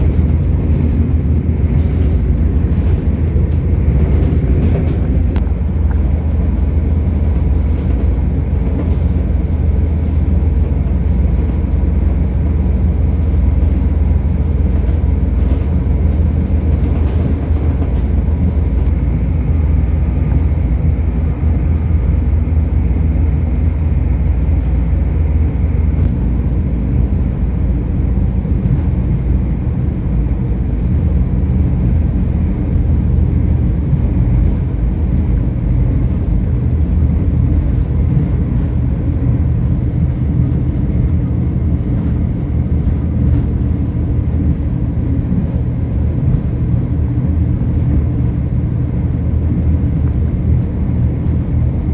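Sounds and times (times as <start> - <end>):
train rumbling: 0.0 - 51.9.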